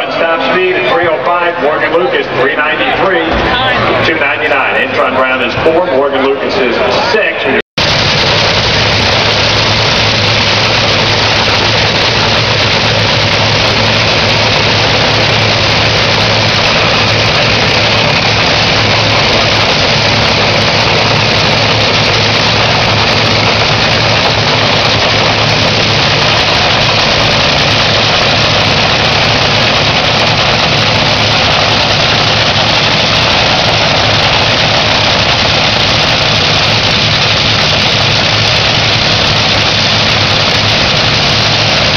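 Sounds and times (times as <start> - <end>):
loud engine idling: 0.0 - 41.9.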